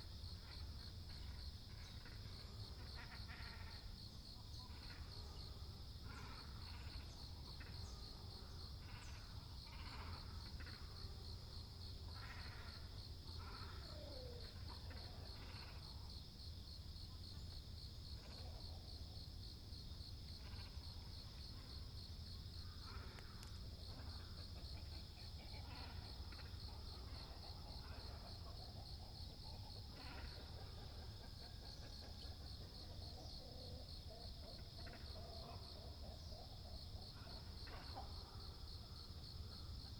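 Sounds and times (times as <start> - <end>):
pulsing insect chorus: 0.0 - 39.9.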